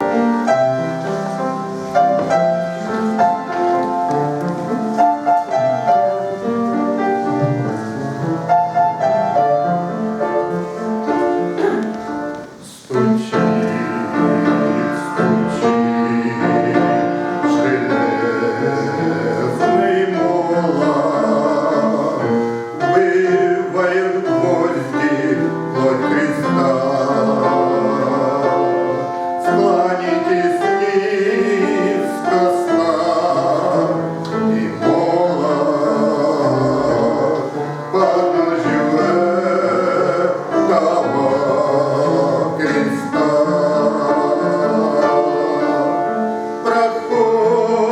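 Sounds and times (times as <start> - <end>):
piano hymn chords: 0.0 - 47.9.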